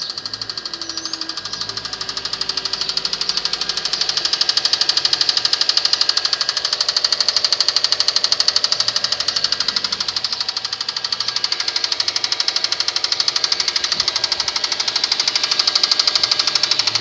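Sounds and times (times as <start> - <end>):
engine running with rapid knock: 0.0 - 17.0.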